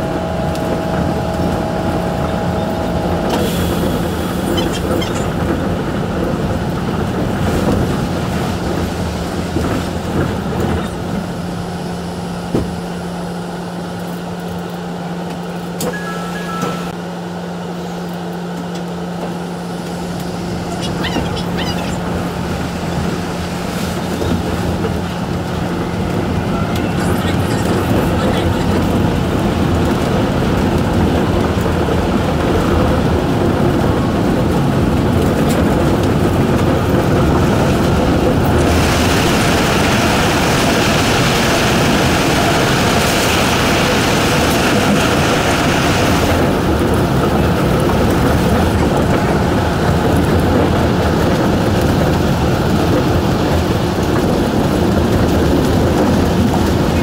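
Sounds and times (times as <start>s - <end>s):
monorail running rumble: 0.0s - 57.0s.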